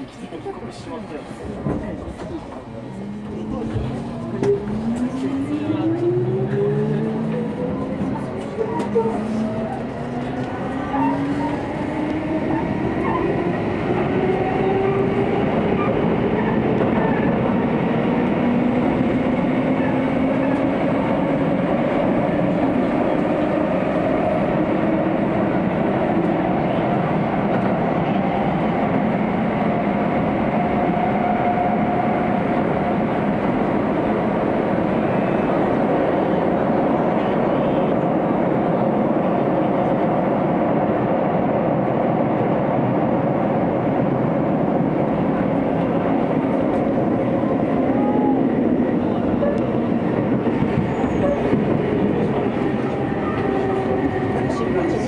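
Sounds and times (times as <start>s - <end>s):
train running rumble: 0.0s - 55.0s.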